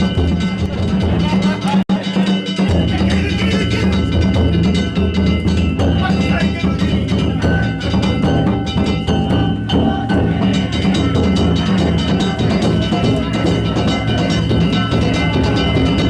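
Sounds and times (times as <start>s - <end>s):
hand gongs clanging: 0.0s - 16.0s
taiko drums beating fast: 0.0s - 16.0s.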